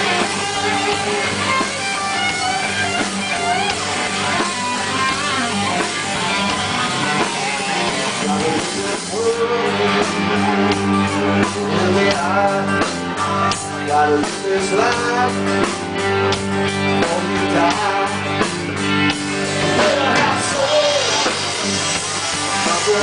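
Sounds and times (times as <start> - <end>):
bending guitar notes: 0.0 - 14.1, 14.7 - 23.0
drums hitting hard: 0.0 - 23.0
rock band playing: 0.0 - 23.0.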